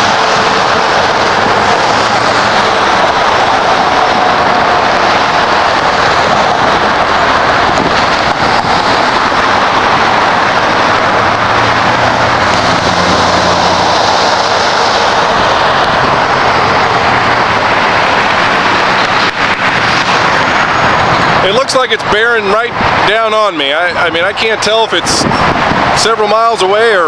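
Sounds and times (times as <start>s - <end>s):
freeway traffic rush: 0.0s - 27.0s
heavy vehicle engine drone: 0.0s - 27.0s.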